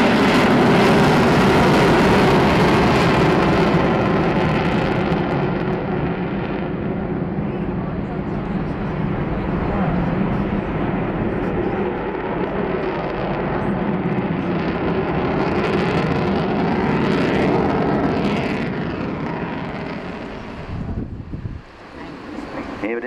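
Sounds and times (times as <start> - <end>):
jet aircraft flying past: 0.0 - 23.0.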